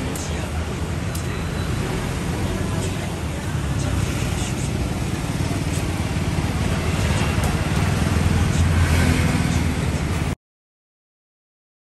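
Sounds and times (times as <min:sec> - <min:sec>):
low engine rumble of passing vehicles: 0:00.0 - 0:10.4
road traffic noise: 0:00.0 - 0:10.4.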